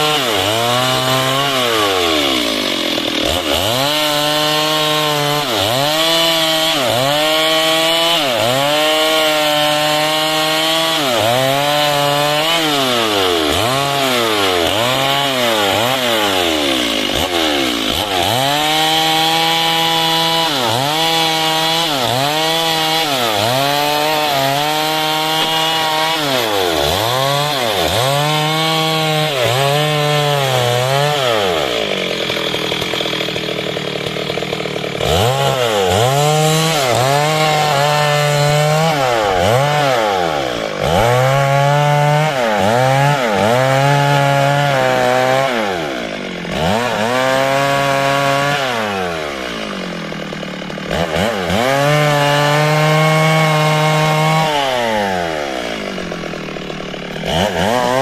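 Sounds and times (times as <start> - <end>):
chainsaw cutting timber: 0.0 - 58.0.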